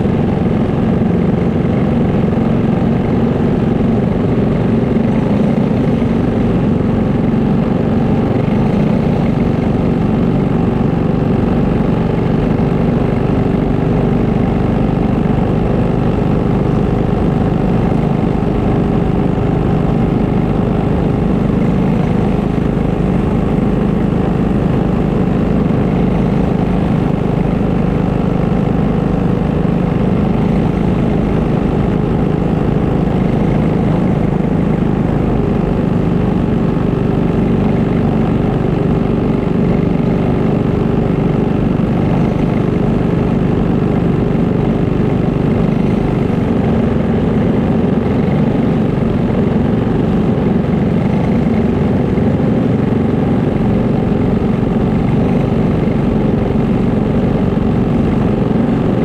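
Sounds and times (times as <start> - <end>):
go-kart engines idling: 0.0 - 59.0.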